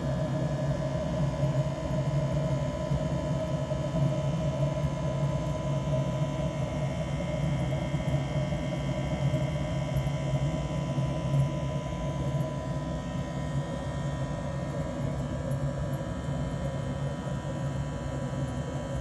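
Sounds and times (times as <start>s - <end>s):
heater burning with steady hum: 0.0s - 19.0s.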